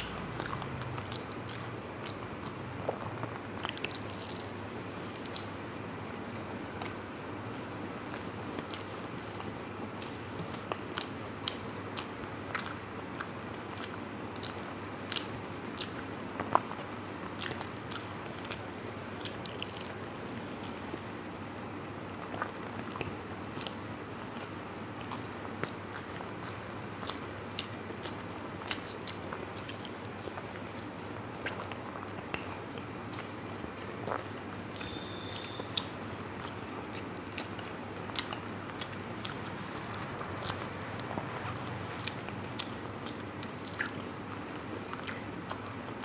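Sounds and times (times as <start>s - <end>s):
chewing with wet mouth clicks: 0.0s - 5.6s, 8.0s - 21.4s, 22.2s - 46.0s.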